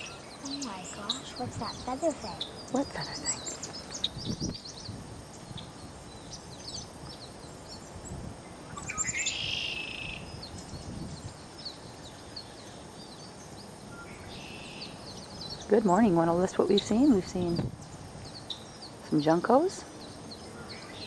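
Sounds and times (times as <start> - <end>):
bird song with buzzy trill: 0.0 - 21.0
songbirds chirping: 0.0 - 21.0.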